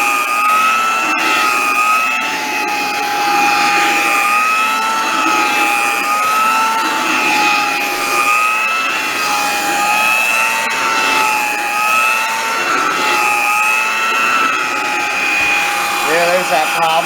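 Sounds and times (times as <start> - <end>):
hand vacuum cleaner motor whine: 0.0 - 17.0.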